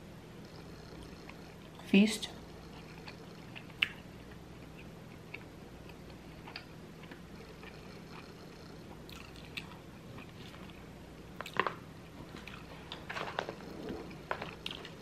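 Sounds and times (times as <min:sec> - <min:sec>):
person chewing food: 0:02.6 - 0:15.0.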